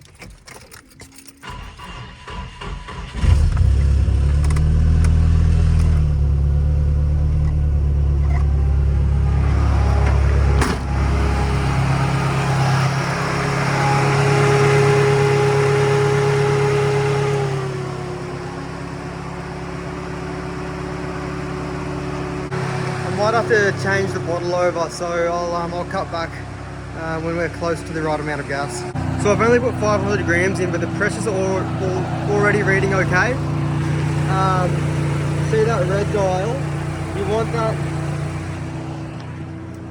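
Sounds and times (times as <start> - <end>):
turbo engine starting and idling: 0.0 - 39.9.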